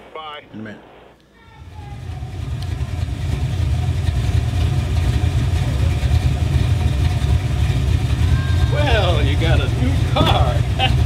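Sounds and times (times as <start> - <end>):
car engine rumbling at low revs: 1.5 - 11.0.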